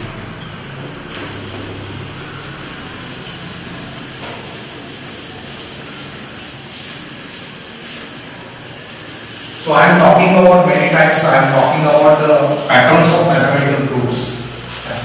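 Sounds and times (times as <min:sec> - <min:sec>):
eraser scrubbing a blackboard: 0:01.1 - 0:15.0.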